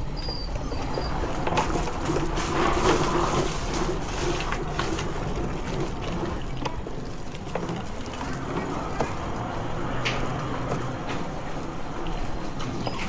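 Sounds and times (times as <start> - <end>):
bicycle road rumble: 0.0 - 13.0.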